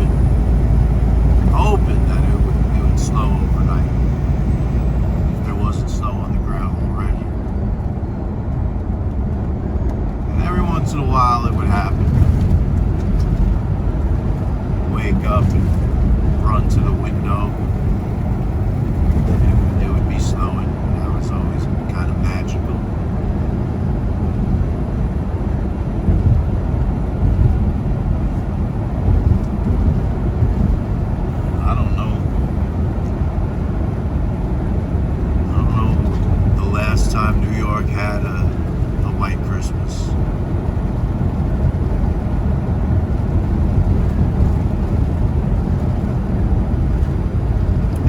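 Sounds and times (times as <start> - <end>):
road rumble: 0.0 - 48.0
truck engine drone: 0.0 - 48.0.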